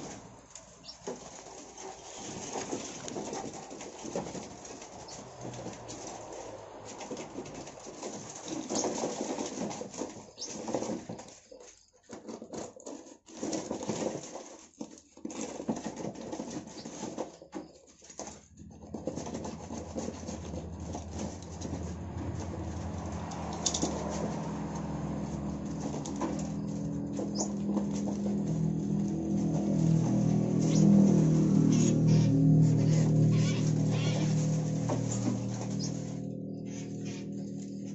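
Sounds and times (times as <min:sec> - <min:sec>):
birds fluttering and scrabbling: 0:00.0 - 0:37.9.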